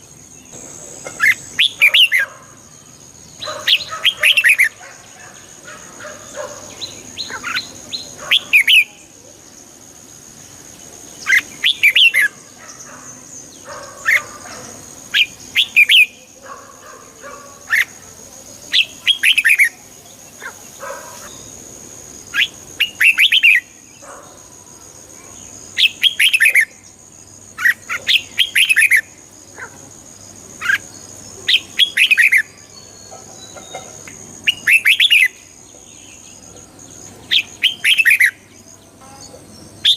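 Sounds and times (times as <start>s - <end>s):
bird singing warbling phrases: 0.0s - 39.9s.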